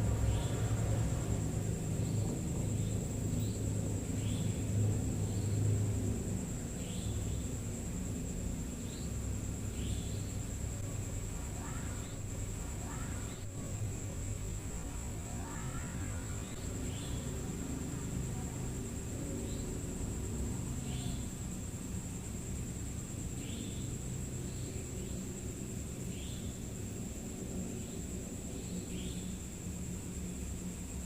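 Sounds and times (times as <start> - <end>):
high-pitched insect whine: 0.0 - 31.0
insects chirping: 0.0 - 31.0
low steady rumble: 0.0 - 31.0.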